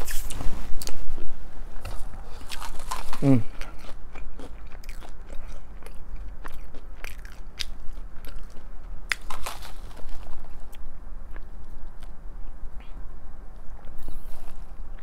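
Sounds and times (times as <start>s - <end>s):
person chewing food: 0.0s - 12.2s.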